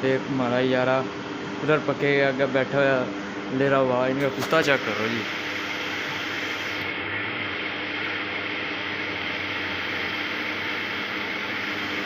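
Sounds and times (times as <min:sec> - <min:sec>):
high whine: 0:00.0 - 0:12.0
steady hum and hiss: 0:00.0 - 0:12.0.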